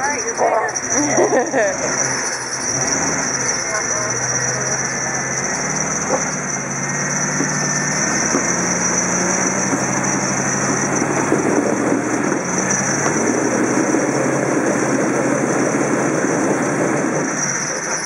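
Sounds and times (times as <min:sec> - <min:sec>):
truck engine at low revs: 0:00.0 - 0:18.0.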